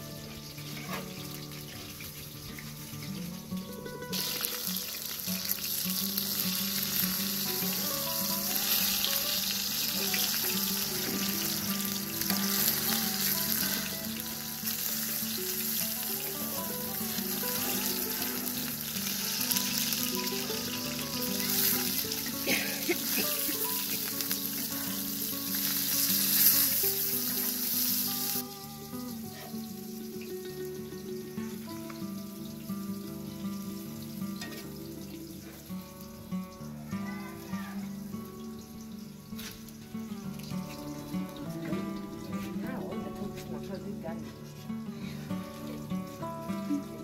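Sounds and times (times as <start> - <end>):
eggplant sizzling in hot oil: 0.0 - 47.0.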